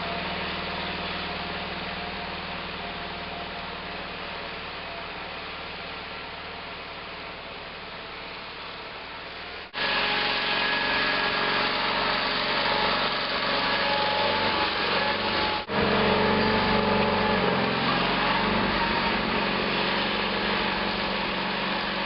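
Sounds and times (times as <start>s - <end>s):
garden tractor engine running: 0.0s - 22.0s.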